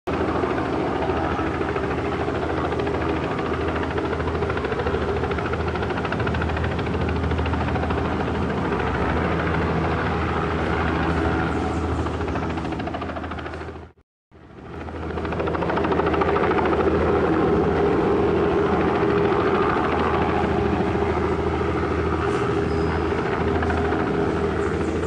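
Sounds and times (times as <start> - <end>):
helicopter rotor chopping: 0.1 - 25.0.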